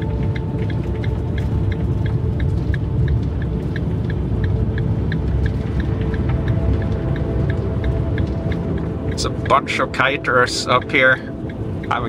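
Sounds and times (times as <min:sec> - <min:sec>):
faint background music: 0:00.0 - 0:12.0
van road rumble inside cabin: 0:00.0 - 0:12.0.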